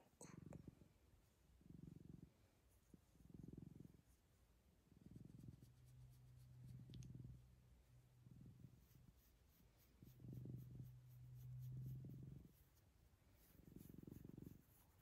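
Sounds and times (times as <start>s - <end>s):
cat purring: 0.0s - 15.0s
fingers rubbing fur: 2.5s - 15.0s.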